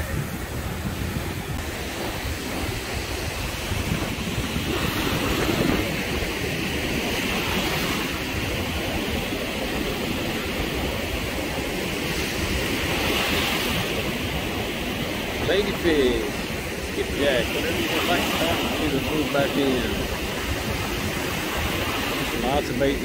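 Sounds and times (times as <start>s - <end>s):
surf breaking on beach: 0.0s - 23.0s
wind buffeting microphone: 0.0s - 23.0s.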